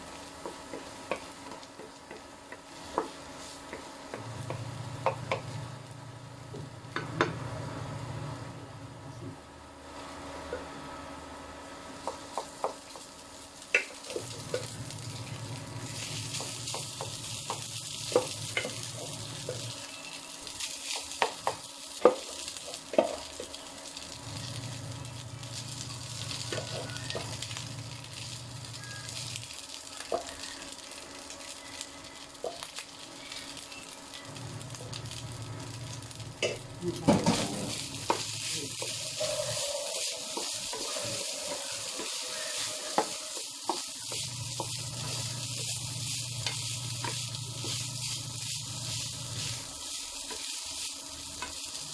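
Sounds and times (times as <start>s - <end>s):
rice sizzling in a pan: 0.0s - 51.9s.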